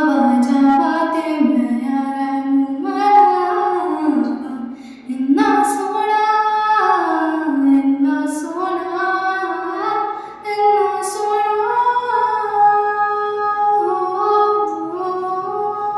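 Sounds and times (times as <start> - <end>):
woman singing long held notes: 0.0 - 15.9.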